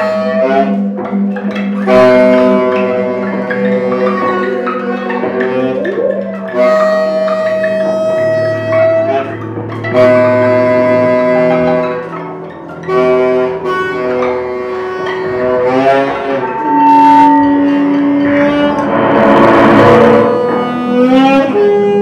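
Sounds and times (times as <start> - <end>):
improvised music with held notes: 0.0 - 22.0.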